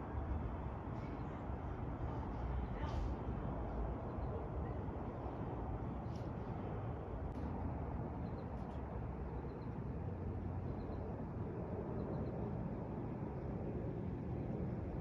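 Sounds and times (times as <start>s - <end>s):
distant airliner rumble: 0.0s - 15.0s.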